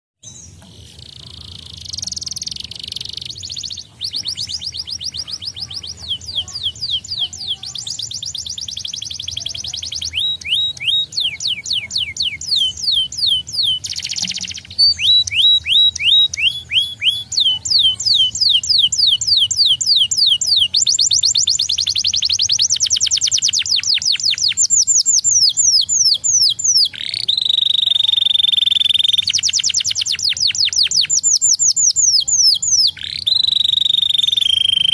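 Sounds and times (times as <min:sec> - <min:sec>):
canary singing: 0:00.2 - 0:34.9.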